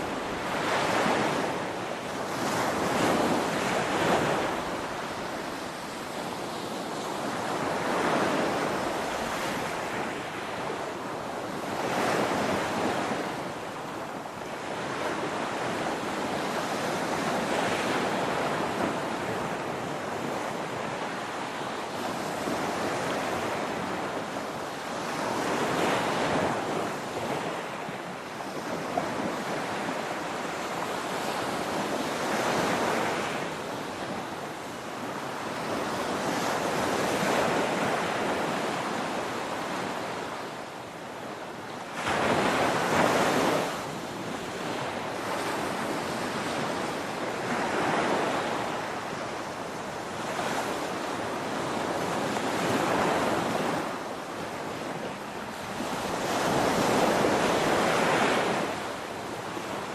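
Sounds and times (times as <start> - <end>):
surf washing: 0.0 - 59.9.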